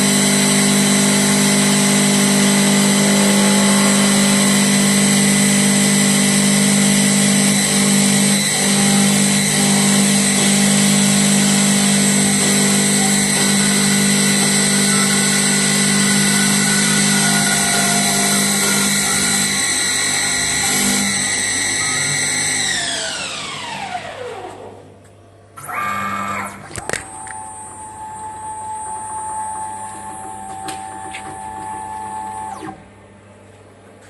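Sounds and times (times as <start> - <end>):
wood lathe hum and whine: 0.0 - 24.8, 25.6 - 32.8.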